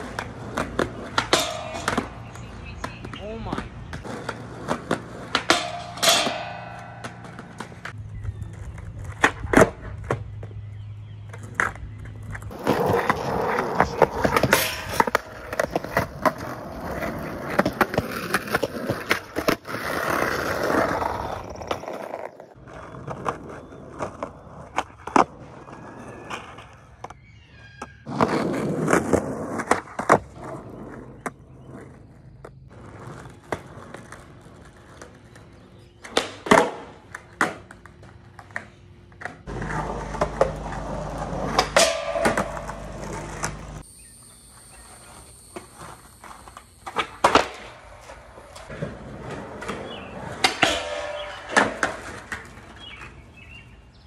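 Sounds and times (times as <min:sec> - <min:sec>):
skateboard clacking on landings: 0:00.0 - 0:10.6, 0:11.3 - 0:25.3, 0:28.8 - 0:43.8, 0:45.5 - 0:53.2
skateboard wheels rolling on pavement: 0:00.0 - 0:54.0.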